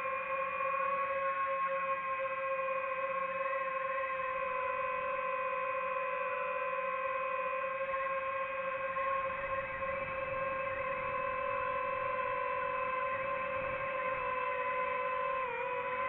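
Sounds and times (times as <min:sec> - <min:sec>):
drone motors humming: 0:00.0 - 0:16.0.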